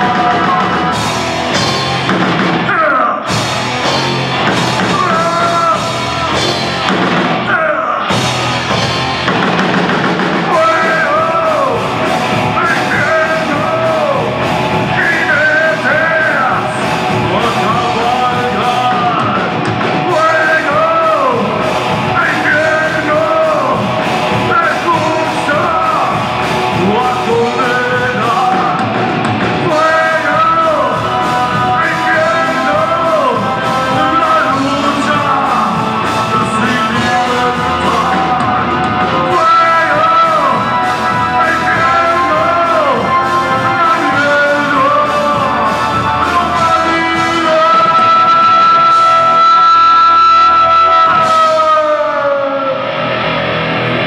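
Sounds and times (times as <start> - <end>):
man singing: 0.0 - 1.8, 2.6 - 9.0, 10.0 - 53.0
bass guitar: 0.0 - 54.0
distorted electric guitars: 0.0 - 54.0
drums: 0.0 - 54.0.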